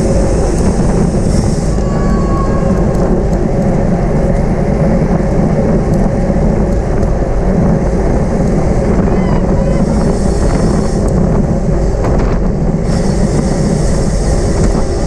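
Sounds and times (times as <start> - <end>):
road noise from bicycle: 0.0 - 15.0
wind rushing on microphone: 0.0 - 15.0.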